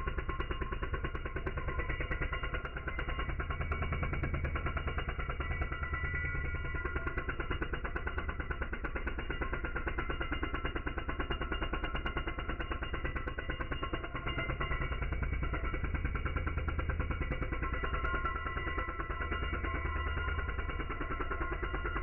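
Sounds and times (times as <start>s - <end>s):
power tool cutting mortar: 0.1s - 22.0s.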